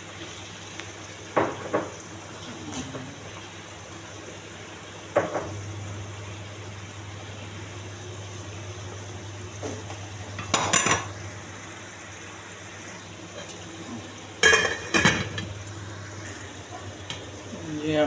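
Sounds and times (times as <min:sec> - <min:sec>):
steady low hum: 0:02.2 - 0:18.0.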